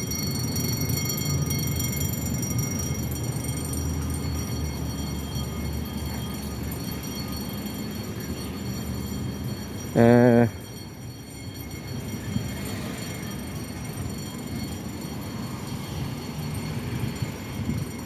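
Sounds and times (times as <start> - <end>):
electric alarm bell ringing: 0.0 - 18.0.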